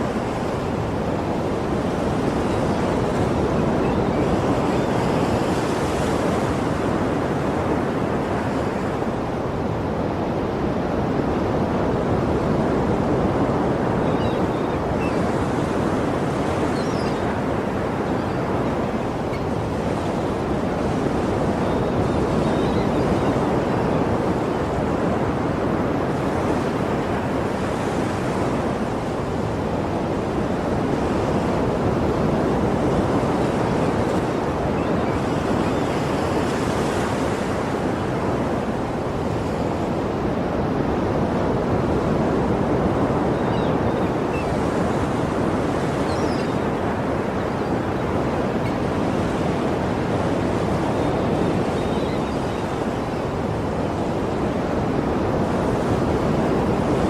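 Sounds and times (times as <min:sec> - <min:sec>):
sea surf waves rushing: 0:00.0 - 0:57.0.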